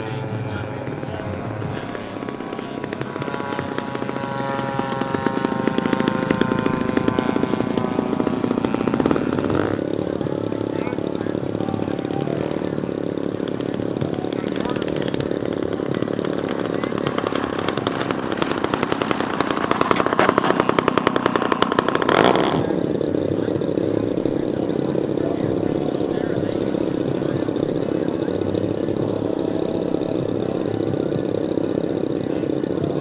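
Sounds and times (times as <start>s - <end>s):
model airplane engine running: 0.0s - 33.0s.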